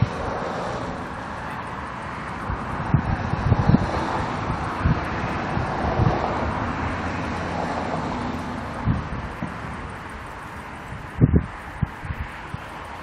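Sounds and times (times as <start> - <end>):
outdoor background rumble: 0.0 - 13.0
wind buffeting microphone: 0.0 - 13.0.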